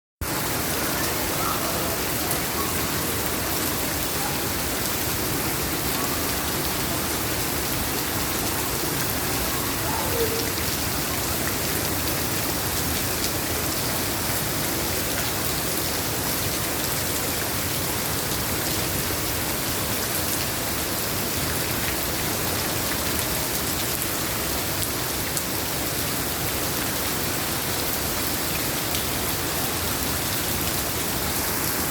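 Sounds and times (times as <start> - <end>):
rain pattering: 0.2 - 31.9.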